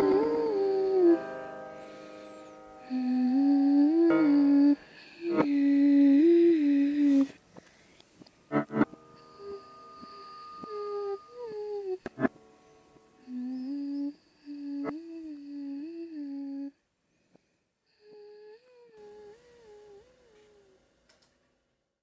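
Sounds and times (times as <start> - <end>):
person humming a slow tune: 0.0 - 7.4, 8.5 - 12.4, 13.1 - 16.8, 17.9 - 20.9.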